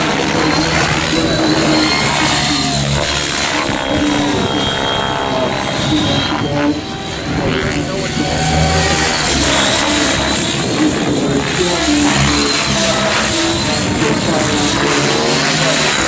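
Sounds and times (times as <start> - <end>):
rc helicopter motor and rotor whine: 0.0 - 16.0.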